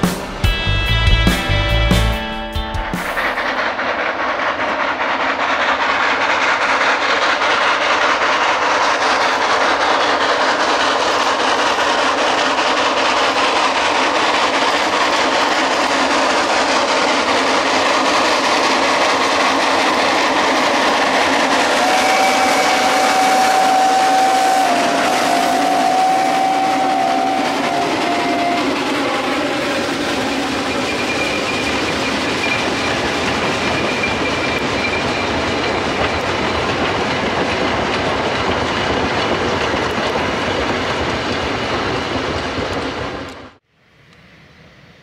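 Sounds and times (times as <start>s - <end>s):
steam train running: 0.0s - 45.0s.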